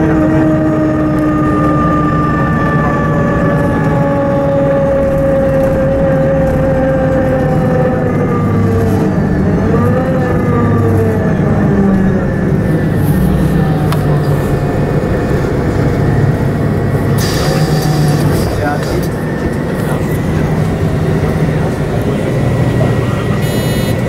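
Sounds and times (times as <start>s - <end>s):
bus engine whining: 0.0s - 24.0s.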